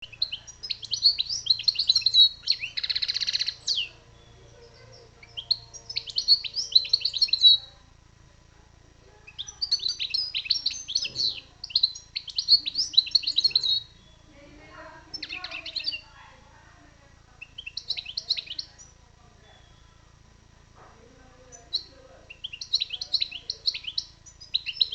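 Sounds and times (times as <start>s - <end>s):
goldfinch twittering song: 0.0s - 7.8s, 9.2s - 16.3s, 17.4s - 20.1s, 21.4s - 24.9s.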